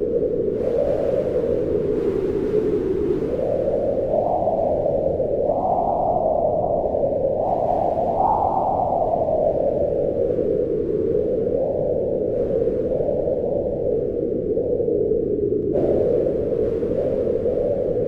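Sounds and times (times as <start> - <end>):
strong wind howling: 0.0 - 18.0.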